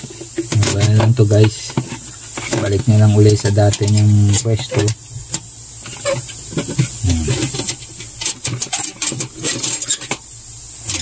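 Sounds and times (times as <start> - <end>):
clicks taps and scraping: 0.0 - 10.2
faint steady hiss: 0.0 - 11.0.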